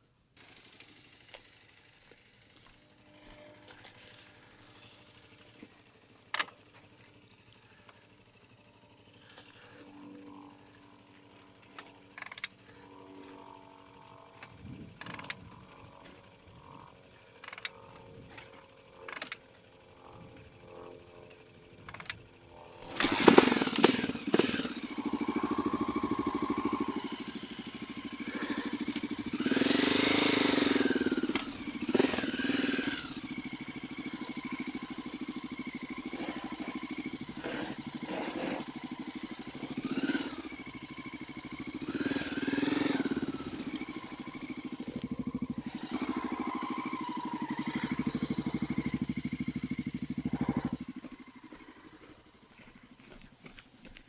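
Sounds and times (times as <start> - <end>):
dirt bike engine revving: 7.2 - 52.7.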